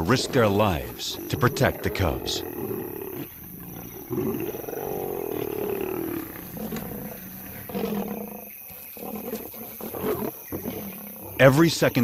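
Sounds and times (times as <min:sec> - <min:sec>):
lions snarling and growling: 0:00.0 - 0:11.6.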